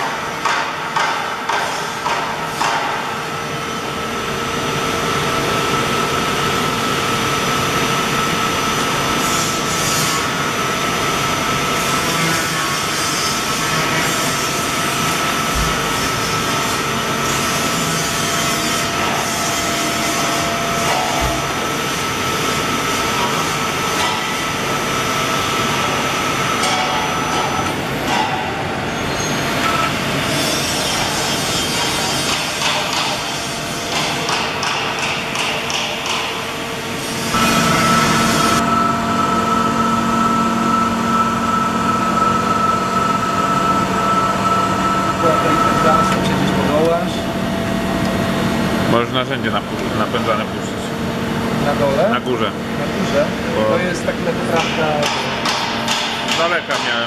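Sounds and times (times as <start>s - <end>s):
machine spindles hissing and whirring: 0.0s - 57.0s
high machine whine: 3.0s - 35.4s, 36.0s - 56.9s.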